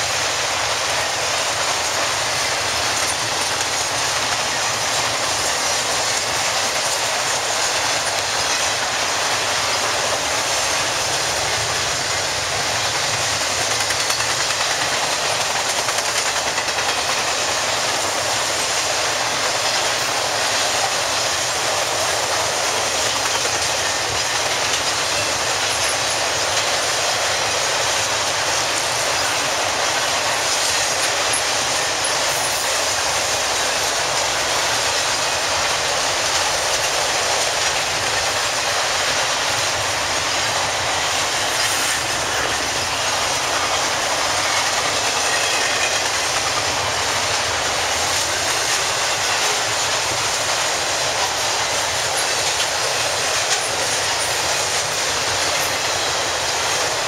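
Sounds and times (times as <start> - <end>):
train wheels clattering on rails: 0.0 - 57.0.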